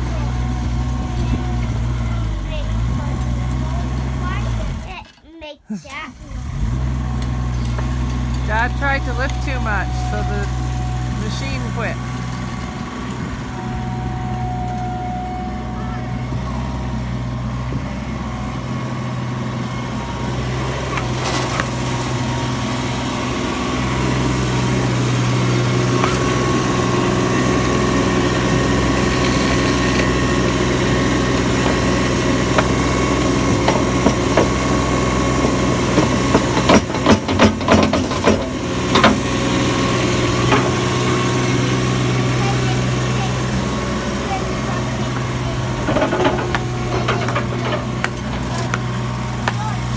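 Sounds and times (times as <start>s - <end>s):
mini skid steer engine running: 0.0s - 5.2s, 5.8s - 49.9s.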